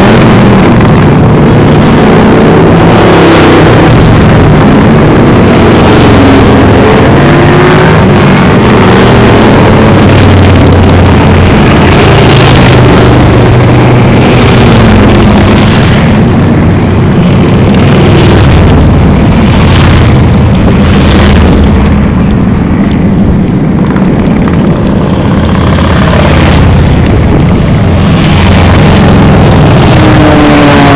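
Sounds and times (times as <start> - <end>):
motorcycles riding past: 1.1 - 30.9.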